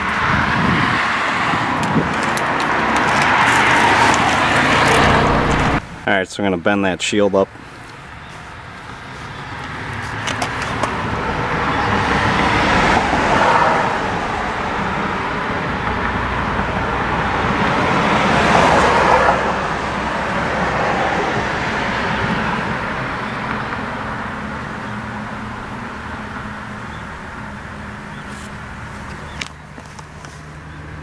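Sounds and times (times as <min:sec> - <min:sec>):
vehicles passing by: 0:00.0 - 0:31.0.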